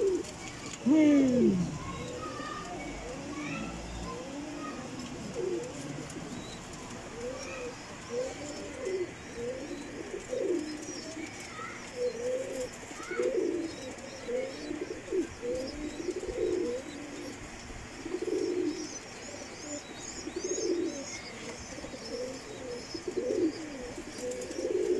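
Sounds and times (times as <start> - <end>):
pigeons cooing: 0.0 - 24.9
small birds chirping: 0.0 - 24.9.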